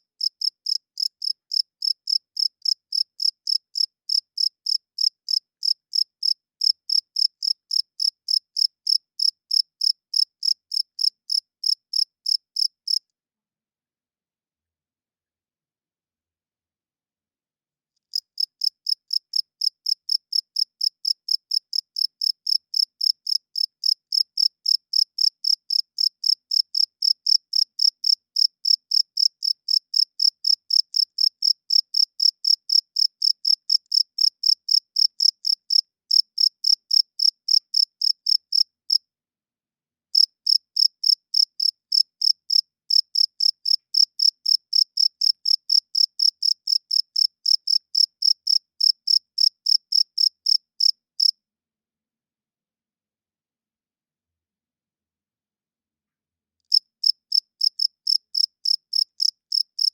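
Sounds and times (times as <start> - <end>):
cricket chirping: 0.2 - 13.0, 18.1 - 39.0, 40.2 - 51.3, 56.7 - 59.9.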